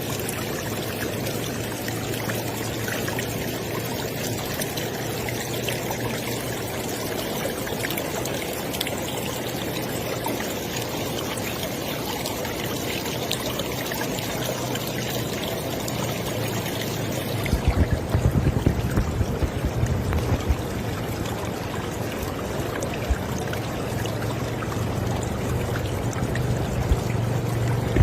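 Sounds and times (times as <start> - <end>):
river water rushing: 0.0 - 28.0
small water splashes: 0.0 - 28.0.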